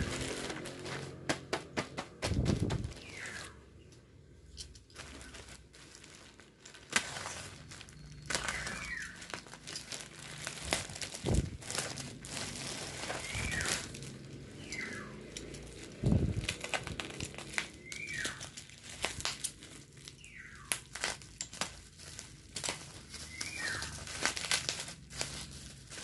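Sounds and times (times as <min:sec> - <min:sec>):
plastic mailer bag crinkling: 0:00.0 - 0:03.9, 0:04.8 - 0:26.0
plastic wrapping rustling: 0:00.0 - 0:26.0.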